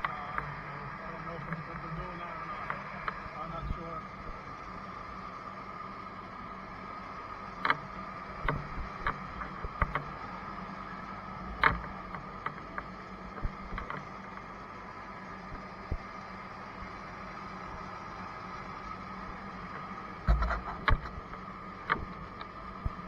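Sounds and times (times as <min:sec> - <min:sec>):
fire engine pump hum: 0:00.0 - 0:23.0.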